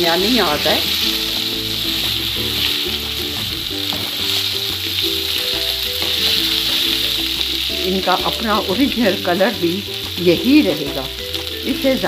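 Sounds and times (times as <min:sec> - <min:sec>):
okra sizzling in oil: 0:00.0 - 0:12.0
spatula scraping and stirring: 0:00.1 - 0:11.6.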